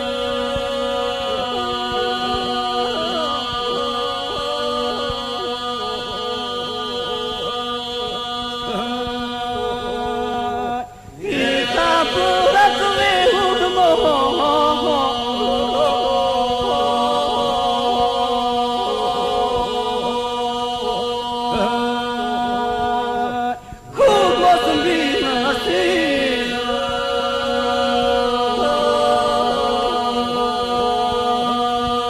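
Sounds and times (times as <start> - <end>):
male group singing drone: 0.0 - 32.0
solo male voices singing: 0.0 - 32.0.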